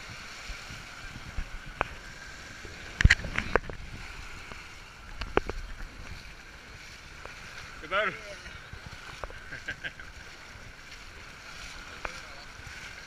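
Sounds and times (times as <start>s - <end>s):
sharp splashes and knocks: 0.0s - 7.8s, 8.6s - 13.0s
shallow water washing and splashing: 0.0s - 13.0s.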